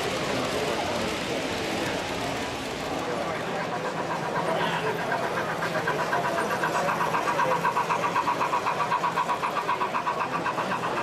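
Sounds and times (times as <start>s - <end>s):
model train running: 0.0s - 11.0s.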